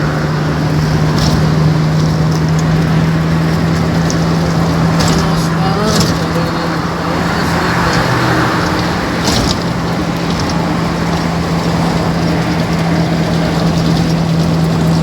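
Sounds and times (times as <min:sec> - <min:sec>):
motor humming: 0:00.0 - 0:15.0
rushing noise: 0:00.0 - 0:15.0.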